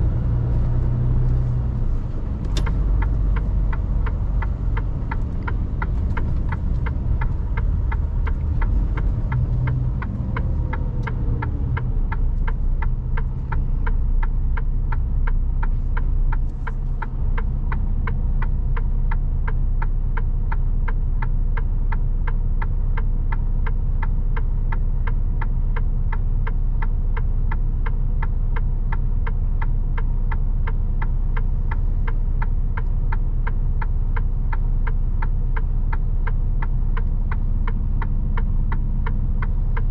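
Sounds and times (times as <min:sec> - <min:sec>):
diesel truck engine idling: 0:00.0 - 0:39.9
regular ticking: 0:00.1 - 0:39.9.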